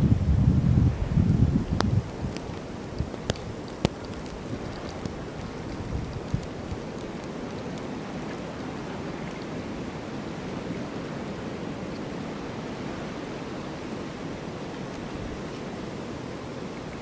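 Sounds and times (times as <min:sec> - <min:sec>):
snowstorm wind rushing: 0:00.0 - 0:17.0.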